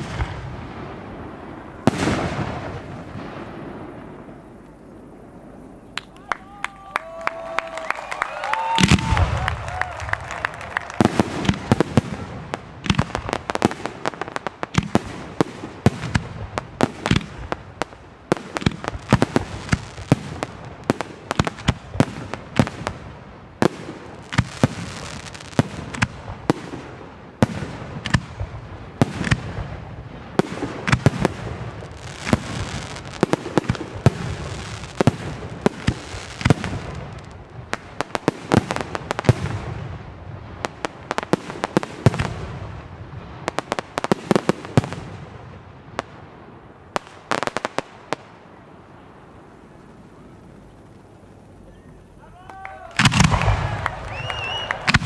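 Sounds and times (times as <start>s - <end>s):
rushing hiss of fireworks: 0.0s - 55.0s.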